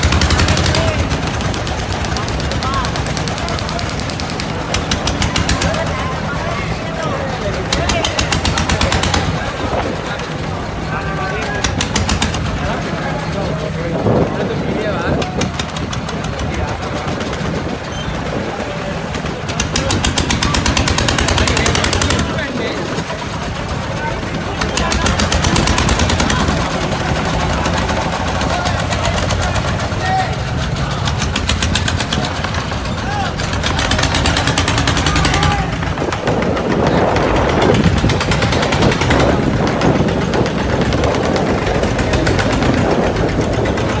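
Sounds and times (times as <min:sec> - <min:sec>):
boat engine knocking: 0:00.0 - 0:44.0.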